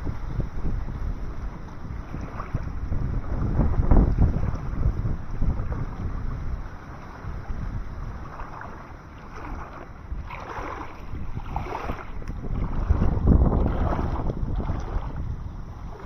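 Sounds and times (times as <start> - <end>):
water lapping and splashing: 0.0 - 16.0
wind buffeting microphone: 0.0 - 16.0.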